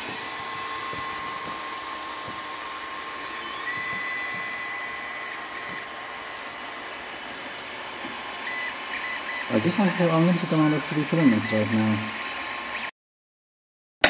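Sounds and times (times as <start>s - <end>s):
second motor whine tone: 0.0s - 12.9s
small motor machine running: 0.0s - 12.9s.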